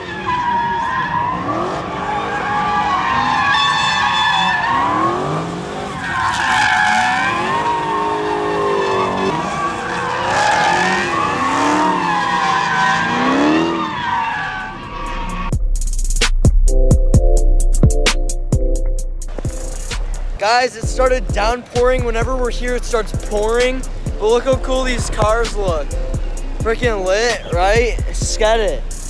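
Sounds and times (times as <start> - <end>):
tyres squealing: 0.0 - 15.5, 19.3 - 29.0
engine revving: 1.3 - 16.3, 19.3 - 29.0.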